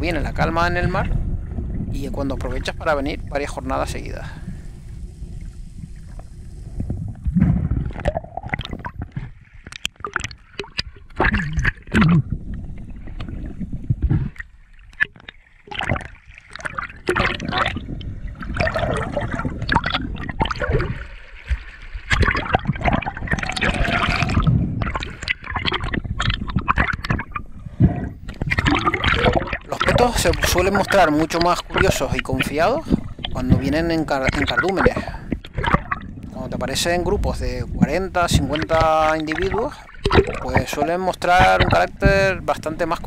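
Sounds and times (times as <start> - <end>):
water gurgling and sloshing: 0.0 - 43.0.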